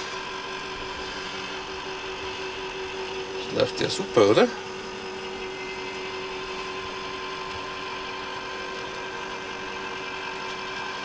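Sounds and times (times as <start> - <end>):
rotisserie motor humming: 0.0 - 11.0.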